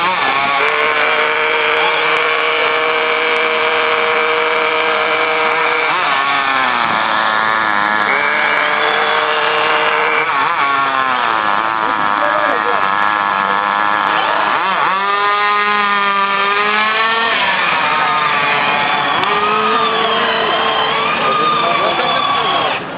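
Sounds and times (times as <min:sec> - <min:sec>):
small two-stroke engine whining: 0:00.0 - 0:22.9.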